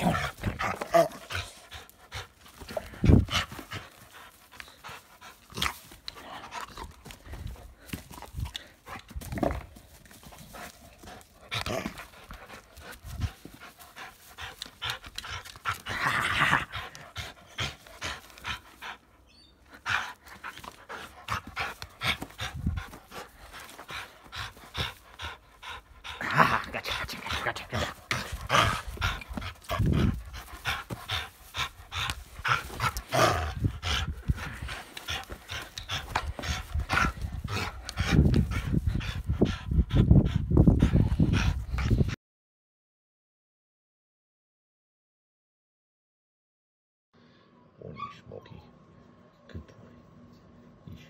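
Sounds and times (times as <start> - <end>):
dog panting: 0.0 - 42.2.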